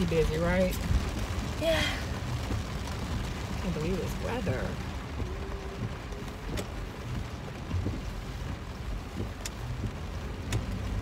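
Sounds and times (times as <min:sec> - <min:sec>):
car rumble from inside cabin: 0:00.0 - 0:11.0
rain hissing on car: 0:00.0 - 0:11.0.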